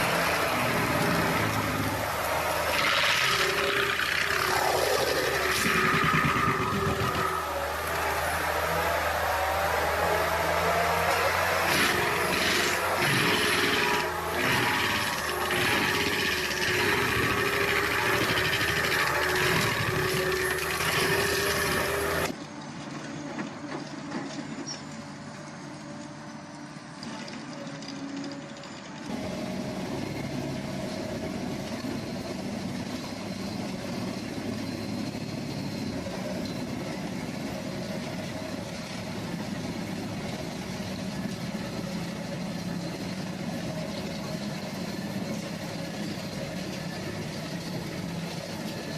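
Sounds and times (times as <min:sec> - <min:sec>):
heavy equipment engines running: 0:00.0 - 0:48.9.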